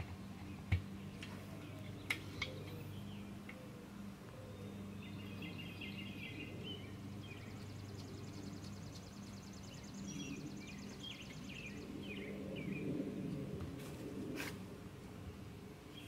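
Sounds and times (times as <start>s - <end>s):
birds chirping: 0.0s - 13.4s, 15.3s - 16.0s
low steady hum: 0.0s - 16.0s.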